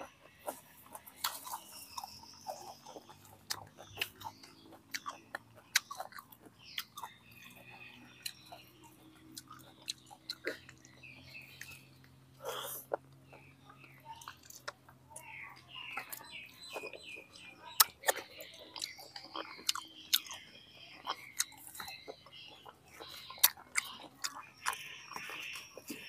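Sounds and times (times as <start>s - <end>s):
wet chewing and mouth smacks: 0.0s - 26.0s.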